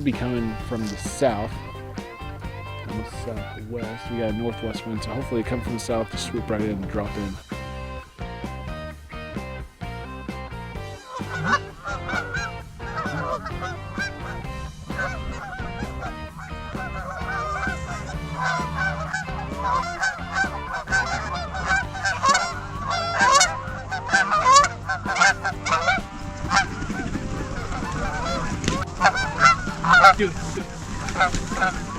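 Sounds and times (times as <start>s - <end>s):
geese honking: 0.0s - 8.3s, 10.7s - 31.9s.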